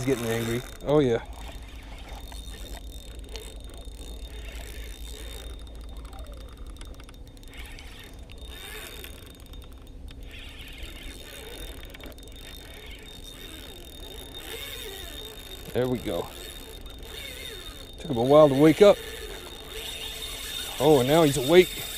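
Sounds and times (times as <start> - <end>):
fishing reel whirring and clicking: 0.0 - 21.9.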